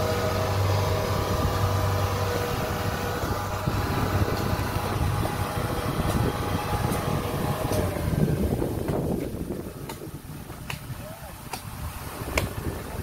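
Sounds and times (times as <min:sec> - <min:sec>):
combine harvester diesel engine running: 0:00.0 - 0:13.0.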